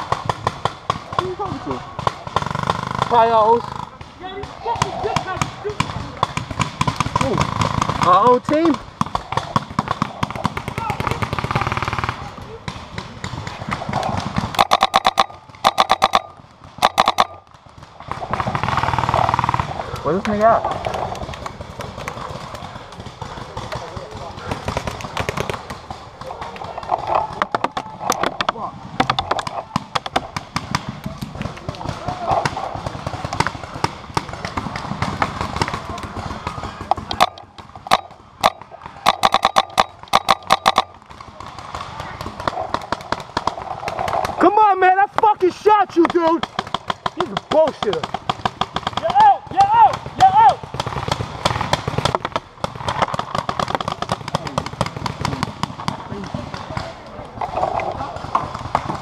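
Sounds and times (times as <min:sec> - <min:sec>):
paintball marker firing: 0:00.0 - 0:59.0.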